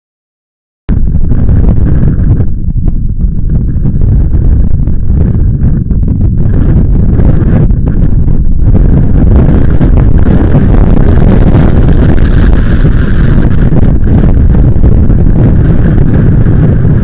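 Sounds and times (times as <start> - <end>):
wind buffeting microphone: 0.9 - 17.0.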